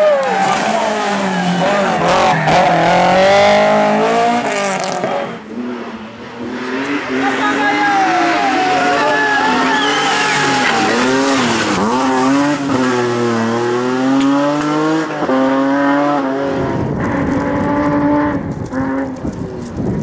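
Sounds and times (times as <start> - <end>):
car engine revving hard: 0.0 - 19.3.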